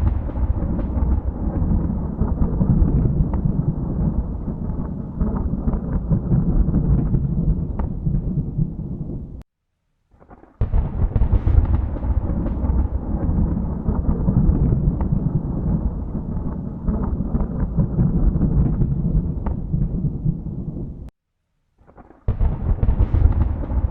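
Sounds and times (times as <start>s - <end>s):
thunder crackles: 0.0s - 9.4s, 10.2s - 21.1s, 21.9s - 23.9s
thunder rumbling: 0.0s - 9.4s, 10.6s - 21.1s, 22.3s - 23.9s.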